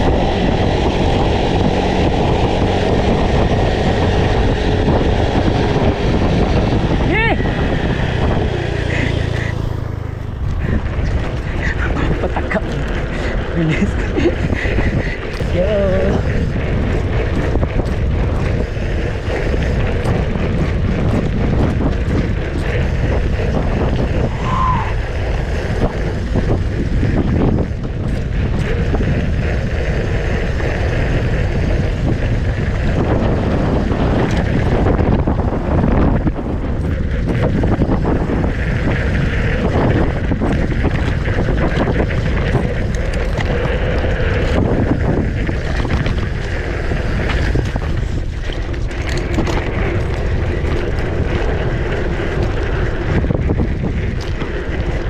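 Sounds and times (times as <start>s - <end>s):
bike tyre noise: 0.0s - 55.0s
wind on microphone: 0.0s - 55.0s.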